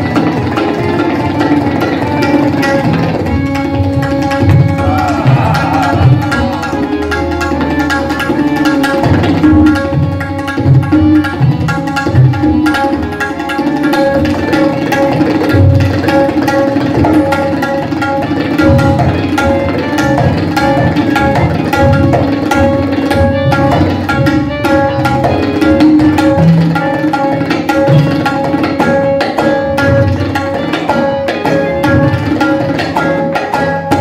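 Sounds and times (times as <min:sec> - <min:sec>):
tabla drumming: 0:00.0 - 0:34.0.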